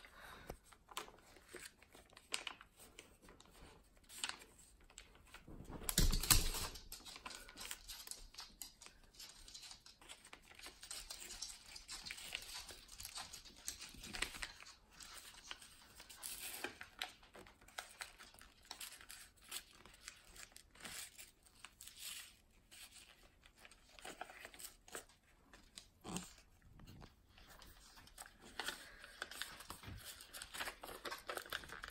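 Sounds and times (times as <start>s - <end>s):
paper crinkling and rustling: 0.4s - 31.9s.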